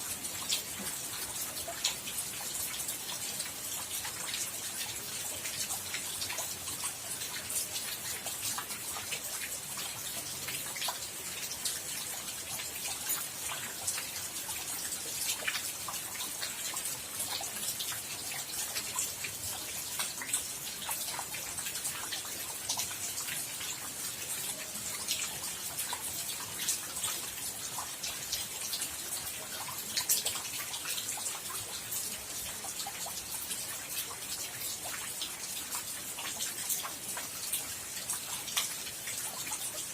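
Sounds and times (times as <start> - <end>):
drips ticking on a surface: 0.0 - 39.9
steady rain hiss: 0.0 - 39.9.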